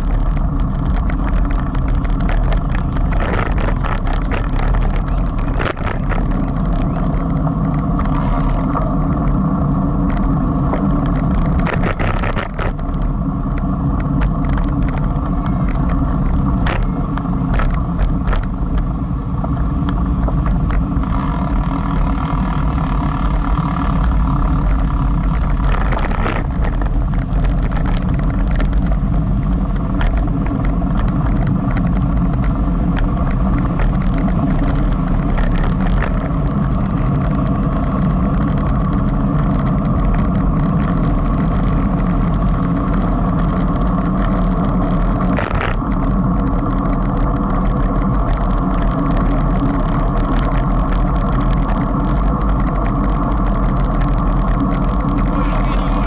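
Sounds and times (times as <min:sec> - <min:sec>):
road rumble: 0:00.0 - 0:56.0
wind on microphone: 0:00.0 - 0:56.0.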